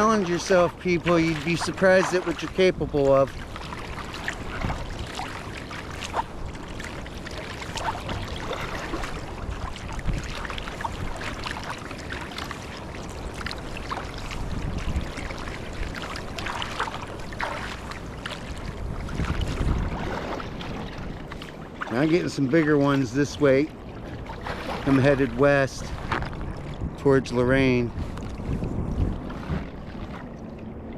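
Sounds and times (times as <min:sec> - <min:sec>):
water splashing from paddle strokes: 0:00.0 - 0:30.9
wind rumble on microphone: 0:00.0 - 0:30.9.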